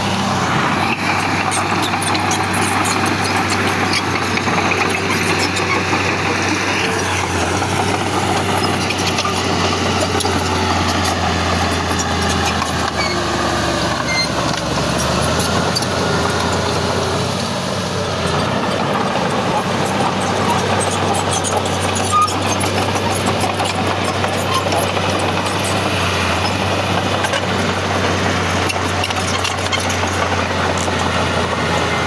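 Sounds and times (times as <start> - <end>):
heavy diesel machinery engine: 0.0 - 32.0.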